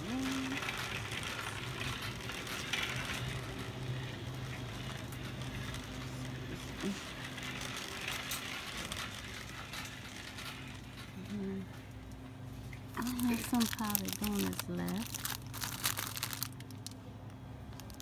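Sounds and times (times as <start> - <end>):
shopping cart wheels rattling: 0.0 - 11.7, 13.0 - 16.5
steady low hum: 0.0 - 18.0.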